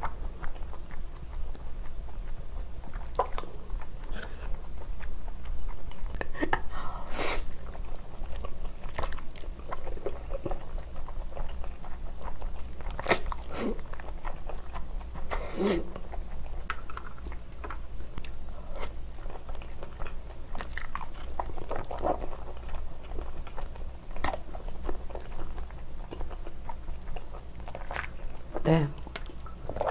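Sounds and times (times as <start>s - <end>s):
person chewing food: 0.0s - 29.9s
steady low hum: 0.0s - 29.9s.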